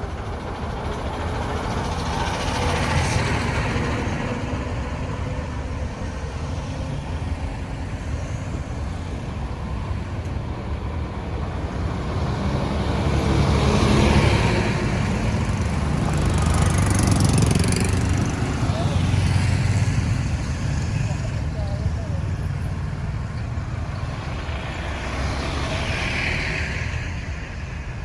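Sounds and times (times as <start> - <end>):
tyre and road noise: 0.0 - 28.0
vehicle engines running: 0.0 - 28.0.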